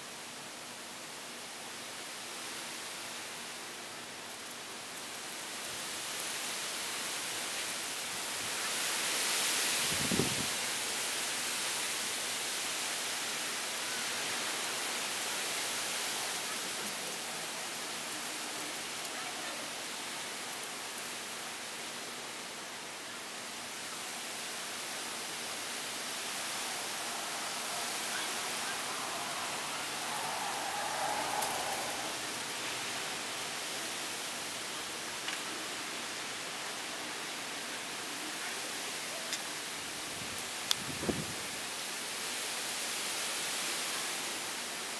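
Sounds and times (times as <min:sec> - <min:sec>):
heavy rain pouring: 0:02.5 - 0:44.9.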